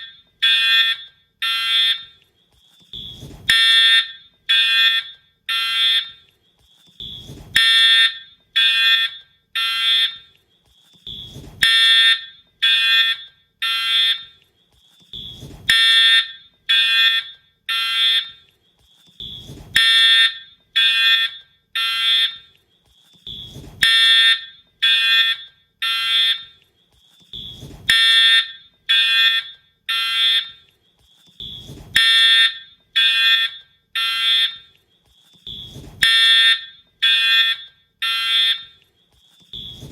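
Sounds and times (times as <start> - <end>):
fire alarm horn blasts: 0.0 - 2.2, 2.9 - 6.3, 7.0 - 10.4, 11.0 - 14.4, 15.1 - 18.5, 19.2 - 22.6, 23.2 - 26.6, 27.3 - 30.7, 31.4 - 34.8, 35.4 - 39.9.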